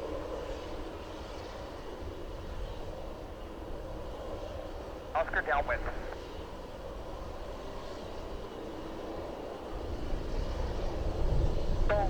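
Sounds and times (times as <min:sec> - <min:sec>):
helicopter engines and rotor: 0:00.2 - 0:12.0.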